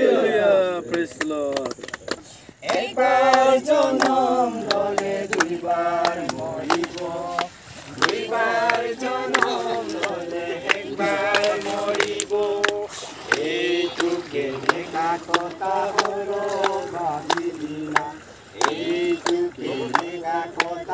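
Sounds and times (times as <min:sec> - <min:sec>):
group singing a worship song: 0:00.0 - 0:00.9, 0:02.5 - 0:20.9
hand claps: 0:00.9 - 0:20.8.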